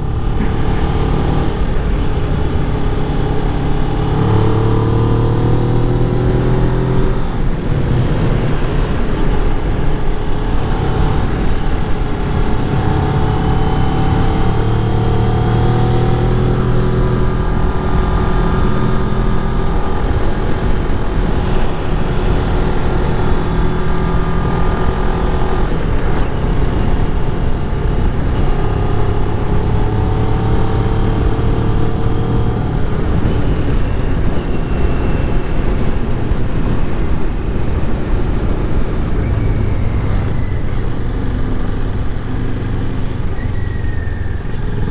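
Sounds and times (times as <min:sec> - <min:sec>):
motorcycle engine revving: 0:00.0 - 0:44.9
wind rush on microphone: 0:00.0 - 0:44.9.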